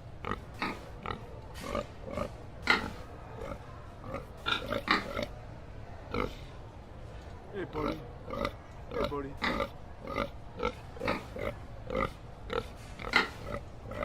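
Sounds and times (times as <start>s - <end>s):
pig grunting: 0.2s - 5.4s, 7.6s - 14.0s.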